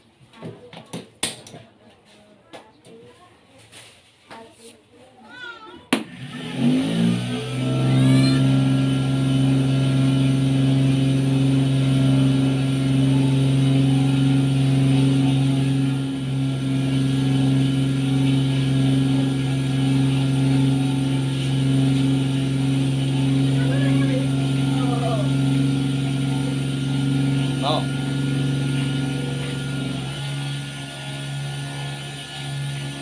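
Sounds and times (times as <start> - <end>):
cotton candy machine motor hum: 5.8 - 33.0.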